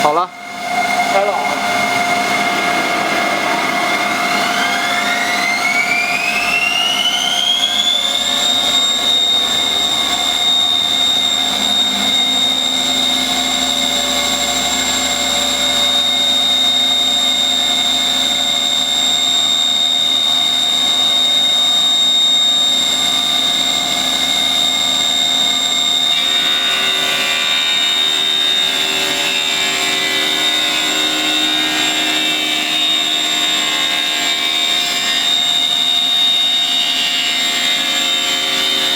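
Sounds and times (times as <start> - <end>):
machine spindle whining: 0.0 - 38.9.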